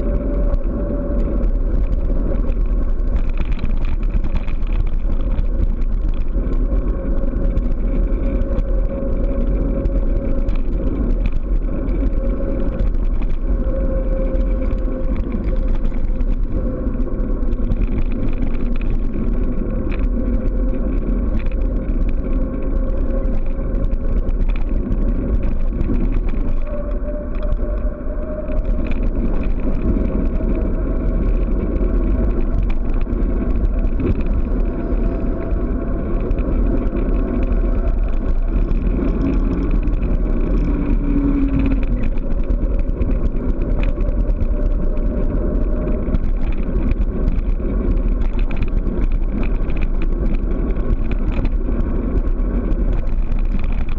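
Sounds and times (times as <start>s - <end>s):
constant whine: 0.0s - 53.9s
wind rush on camera: 0.0s - 53.9s.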